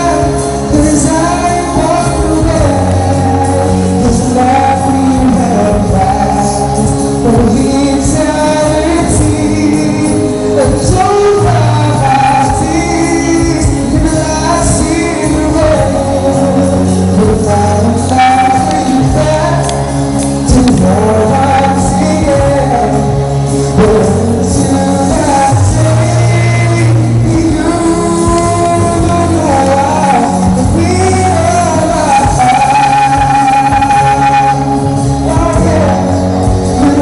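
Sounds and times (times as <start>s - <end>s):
backing music with percussion: 0.0s - 37.0s
person singing: 0.0s - 37.0s.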